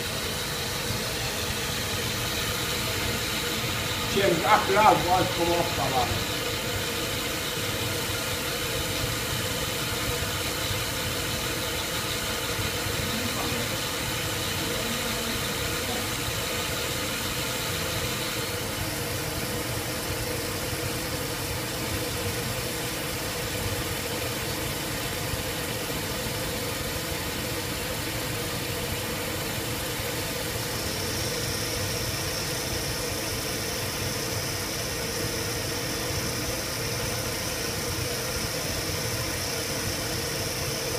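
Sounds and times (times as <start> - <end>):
pump motor humming: 0.0 - 40.9.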